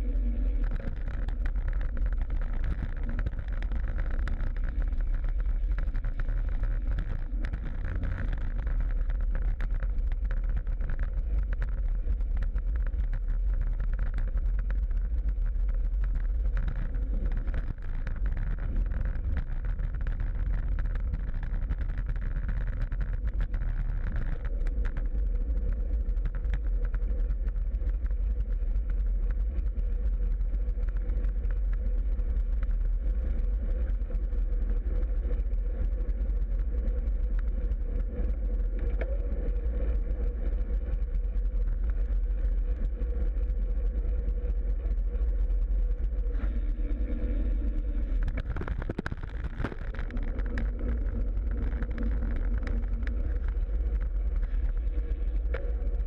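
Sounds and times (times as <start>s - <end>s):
bicycle tyres rumbling on road: 0.0s - 56.0s
steady hum: 0.0s - 56.0s.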